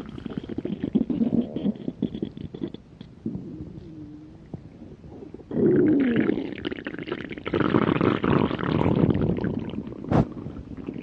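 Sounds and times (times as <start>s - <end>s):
stomach growling: 0.0s - 11.0s.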